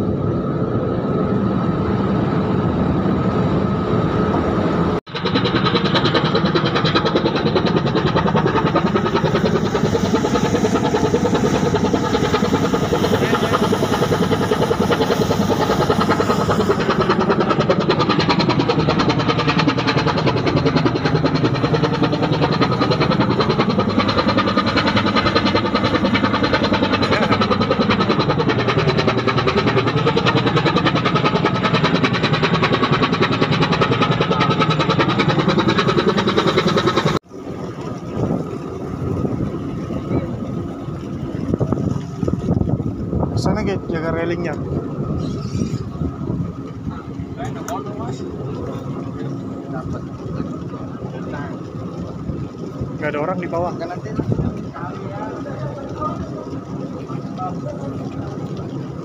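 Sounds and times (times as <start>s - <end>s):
ship diesel engine pulsing: 0.0s - 59.0s.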